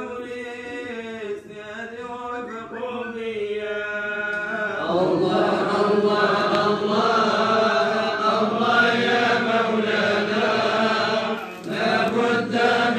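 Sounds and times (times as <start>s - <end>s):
men chanting: 0.0s - 12.9s.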